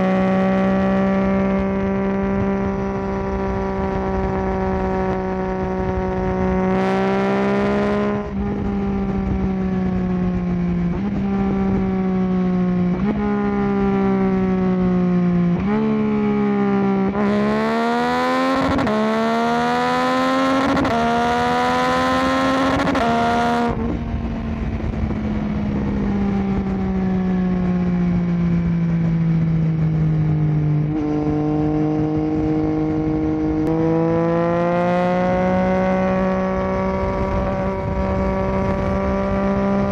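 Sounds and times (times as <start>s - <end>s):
wind rush: 0.0s - 15.3s, 17.0s - 39.9s
motorcycle engine through exhaust: 0.0s - 39.9s.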